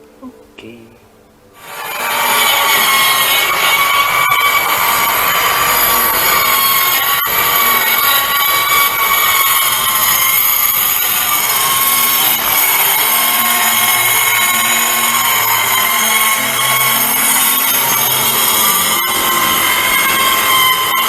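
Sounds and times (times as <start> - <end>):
circular saw motor whine: 1.6 - 21.0.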